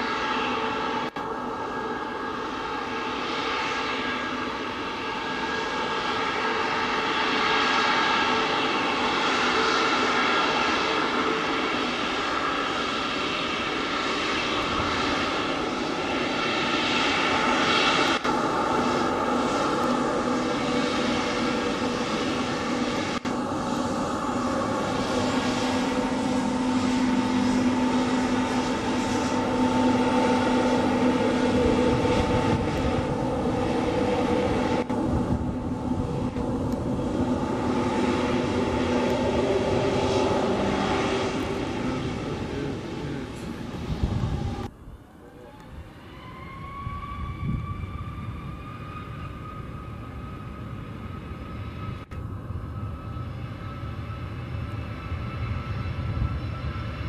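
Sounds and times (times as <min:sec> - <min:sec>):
jet engine whine: 0:00.0 - 0:57.0
low hum: 0:00.0 - 0:57.0.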